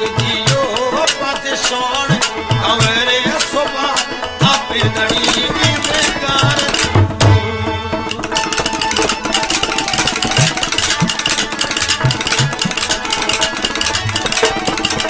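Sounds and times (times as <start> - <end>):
hand-drum beats: 0.0 - 15.0.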